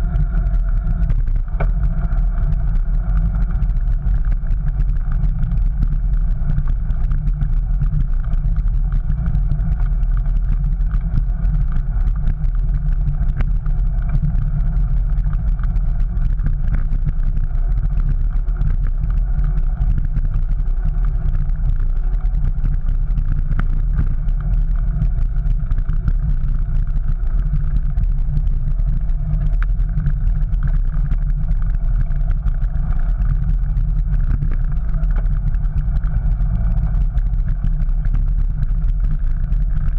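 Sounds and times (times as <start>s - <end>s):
bicycle rolling over paving stones: 0.0s - 39.9s.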